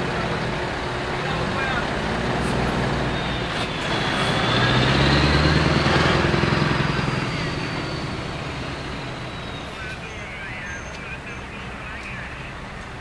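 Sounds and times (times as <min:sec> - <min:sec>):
truck diesel engine pulling away: 0:00.0 - 0:11.8.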